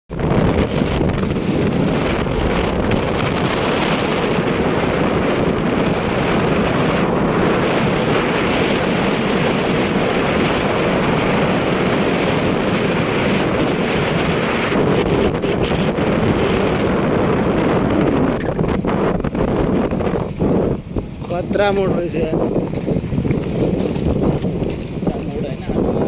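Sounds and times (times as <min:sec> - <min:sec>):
motorcycle running: 0:00.1 - 0:26.0
road noise: 0:00.1 - 0:26.0
wind buffeting microphone: 0:00.1 - 0:26.0.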